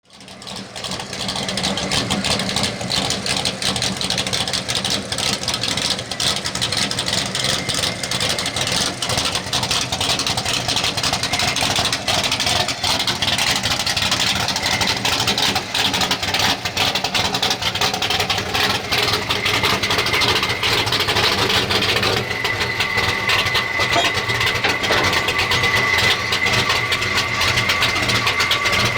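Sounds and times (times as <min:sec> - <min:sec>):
truck engine idling: 0:00.1 - 0:28.9.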